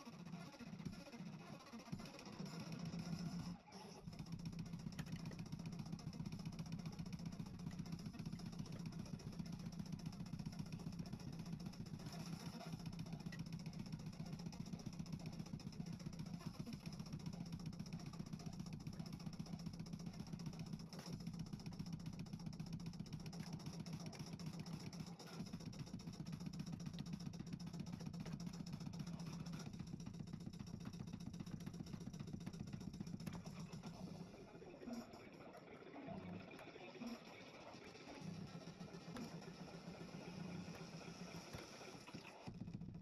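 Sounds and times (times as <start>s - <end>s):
microwave oven humming: 0.0s - 43.0s.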